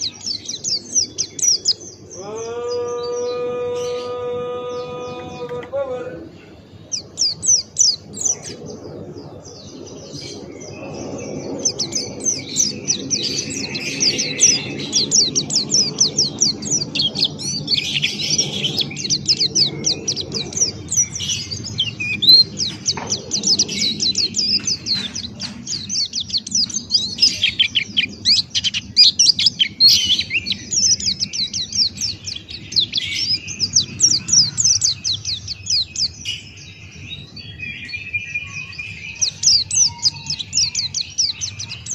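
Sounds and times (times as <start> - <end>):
bird chattering song: 0.0 - 41.9.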